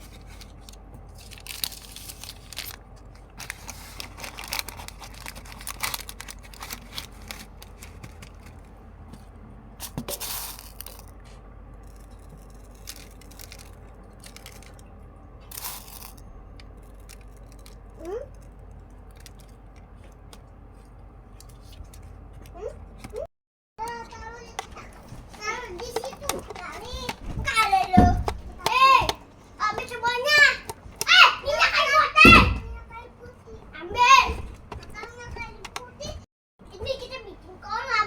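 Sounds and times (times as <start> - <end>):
crinkling and tearing of handling: 0.0 - 31.6
low steady hum: 0.0 - 37.8.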